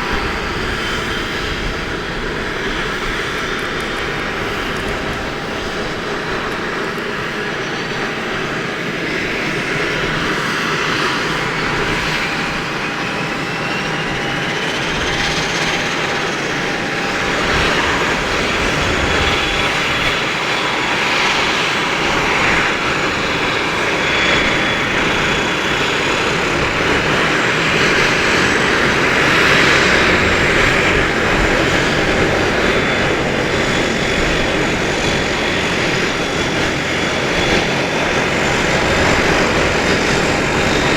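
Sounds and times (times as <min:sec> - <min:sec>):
turboprop engines whine: 0:00.0 - 0:40.9.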